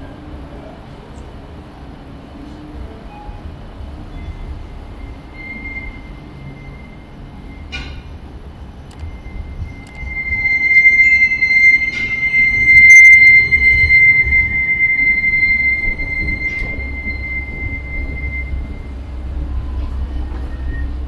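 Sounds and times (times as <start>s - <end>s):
tram wheels squealing on rails: 2.4s - 21.0s
low rumble: 3.6s - 21.0s.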